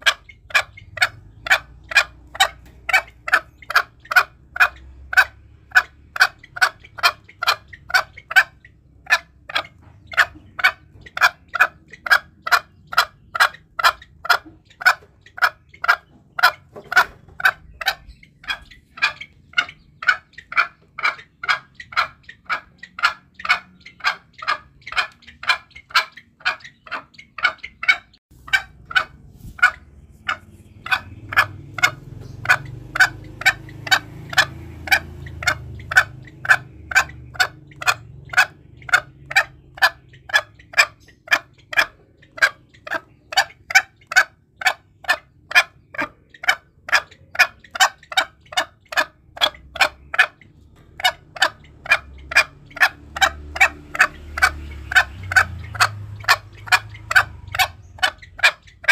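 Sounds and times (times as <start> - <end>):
junglefowl clucking: 0.0 - 58.9.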